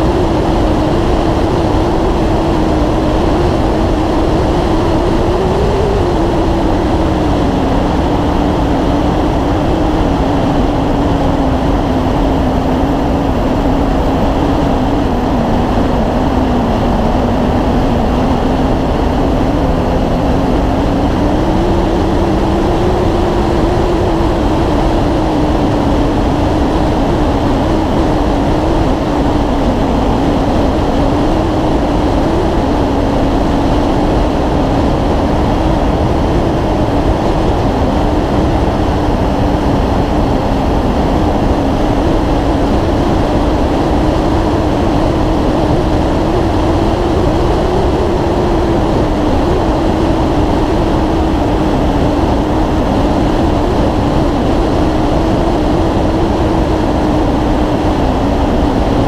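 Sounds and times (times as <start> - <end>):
motorcycle engine drone: 0.0 - 59.0
wind and road noise: 0.0 - 59.0.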